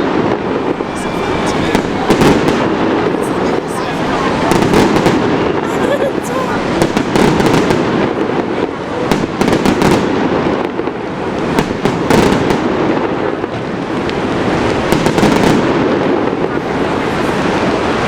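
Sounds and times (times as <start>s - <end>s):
steady loud rush: 0.0s - 15.0s
fireworks crackling: 0.0s - 18.0s.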